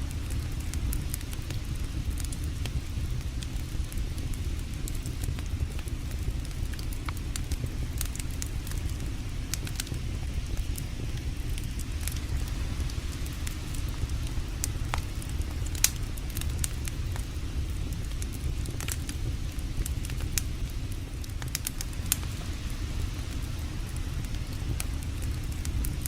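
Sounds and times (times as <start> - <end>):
campfire crackling: 0.0 - 26.0
low rumble: 0.0 - 26.0.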